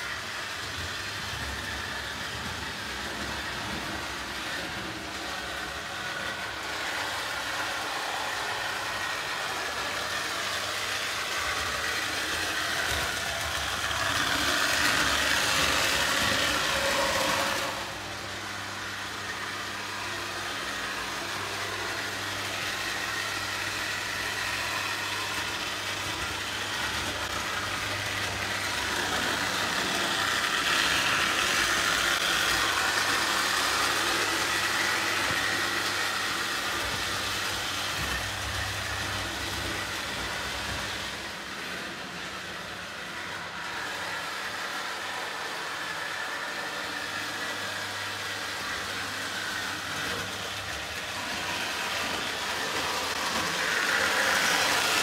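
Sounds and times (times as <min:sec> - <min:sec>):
model train motors whirring: 0:00.0 - 0:55.0.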